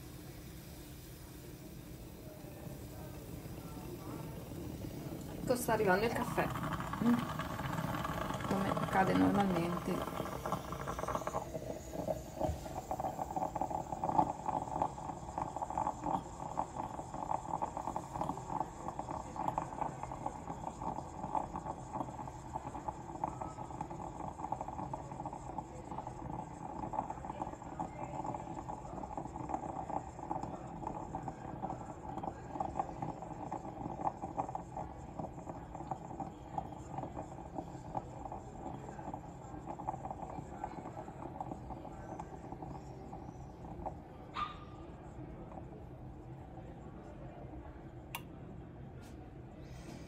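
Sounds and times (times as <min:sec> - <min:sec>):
moka pot bubbling and sputtering: 0:00.0 - 0:50.0.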